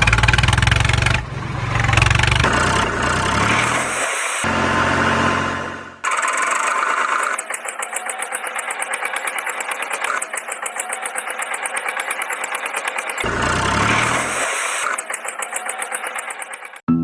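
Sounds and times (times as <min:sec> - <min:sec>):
engine chugging: 0:00.0 - 0:16.9.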